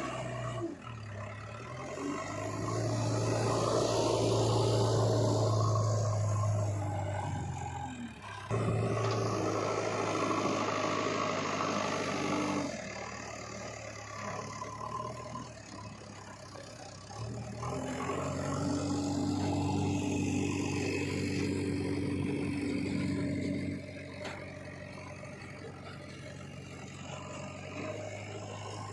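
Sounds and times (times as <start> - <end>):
diesel engines running: 0.0 - 28.9.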